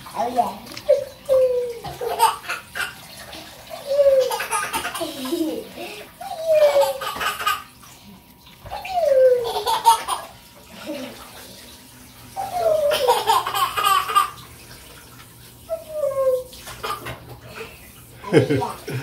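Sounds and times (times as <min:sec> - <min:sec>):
water running into bathtub: 0:00.0 - 0:19.0.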